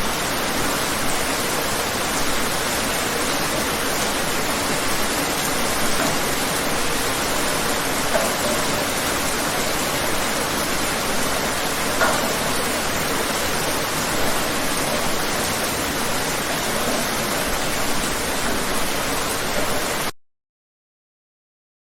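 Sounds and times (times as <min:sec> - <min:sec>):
steady rain falling: 0:00.0 - 0:20.1.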